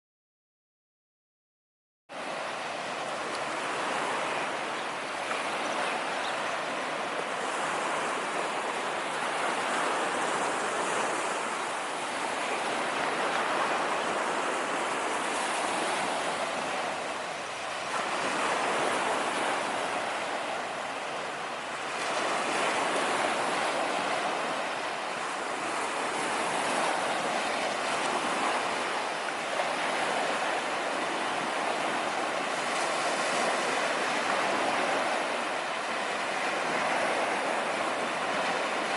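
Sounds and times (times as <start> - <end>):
sea waves washing onto beach: 2.1 - 38.9.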